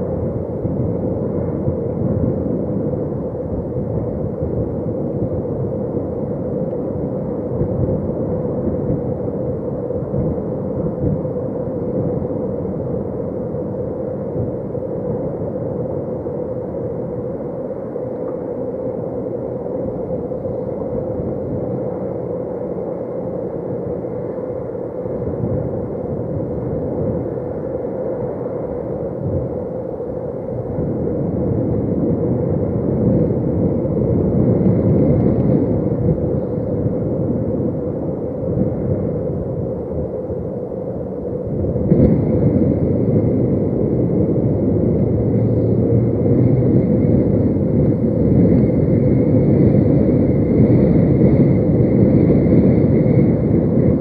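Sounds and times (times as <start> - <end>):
wind buffeting microphone: 0.0 - 18.1, 18.8 - 54.0
constant hum: 0.0 - 54.0.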